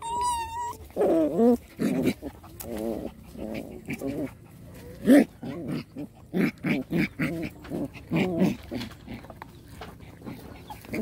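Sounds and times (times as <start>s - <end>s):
puppies yipping: 0.0s - 11.0s.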